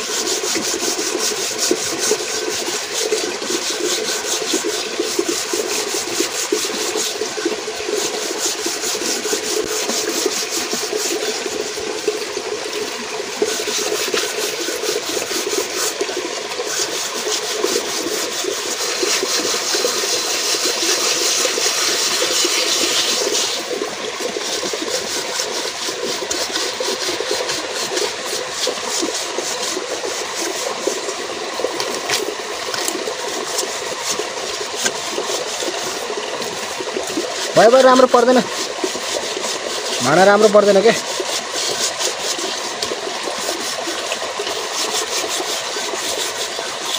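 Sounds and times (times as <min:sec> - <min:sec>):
grass scouring metal pot: 0:00.0 - 0:46.9.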